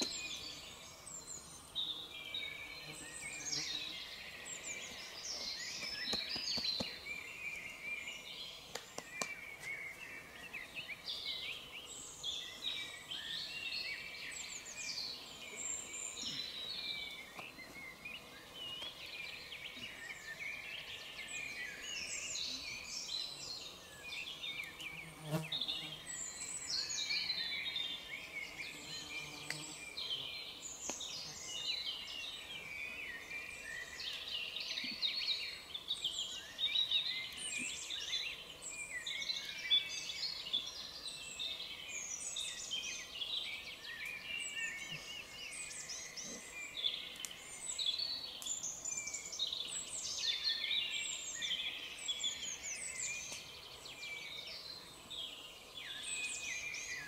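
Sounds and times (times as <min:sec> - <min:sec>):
chorus of birds singing: 0:00.0 - 0:57.0.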